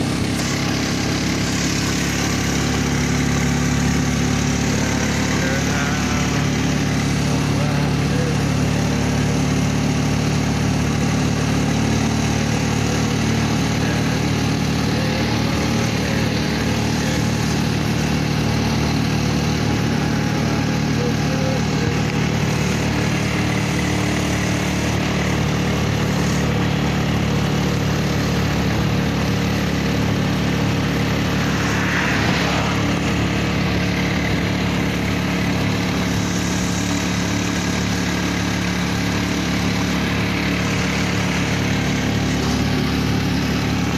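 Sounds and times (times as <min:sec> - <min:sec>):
motorcycle engine running steadily: 0:00.0 - 0:43.9
road and wind noise: 0:00.0 - 0:43.9.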